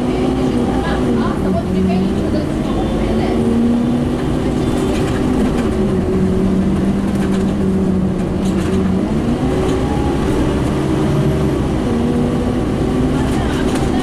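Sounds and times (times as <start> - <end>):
bus diesel engine: 0.0 - 14.0.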